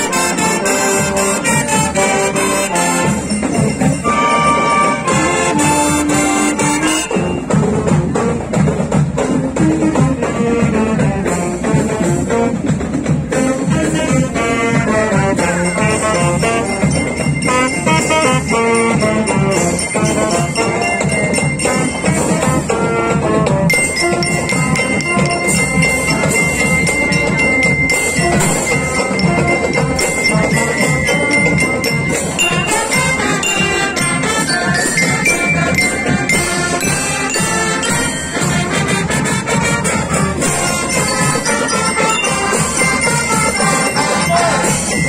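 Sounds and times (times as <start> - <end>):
glockenspiel melody: 0.0 - 7.8, 14.6 - 45.0
marching band playing: 0.0 - 45.0.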